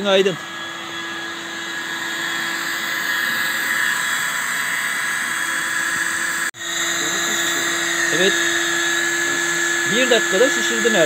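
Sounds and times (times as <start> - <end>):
electric air pump whirring: 0.0 - 11.0.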